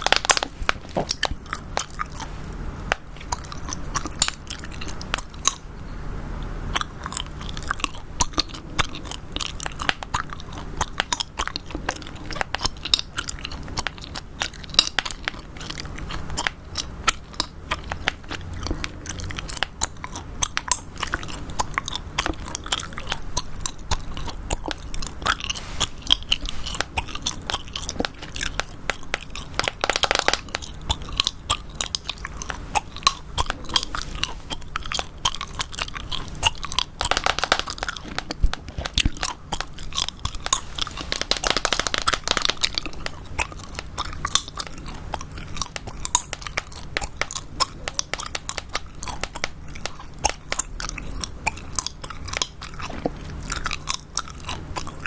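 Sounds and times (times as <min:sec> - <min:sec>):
gum chewing wet smacks: 0:00.0 - 0:05.7, 0:06.7 - 0:55.0.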